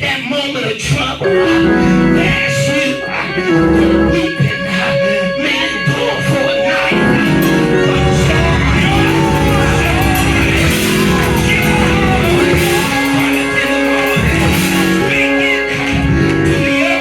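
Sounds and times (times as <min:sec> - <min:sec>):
voices singing: 0:00.0 - 0:17.0
church band music: 0:01.2 - 0:17.0.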